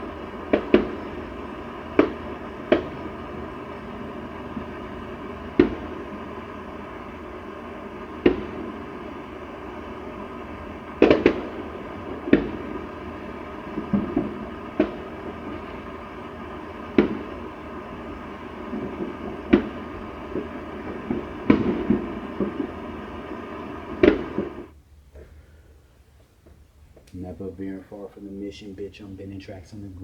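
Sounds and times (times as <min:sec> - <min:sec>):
fireworks sharp bangs: 0:00.0 - 0:24.8
crackling pops: 0:00.0 - 0:25.3, 0:26.2 - 0:27.4
steady background hiss: 0:00.0 - 0:30.0.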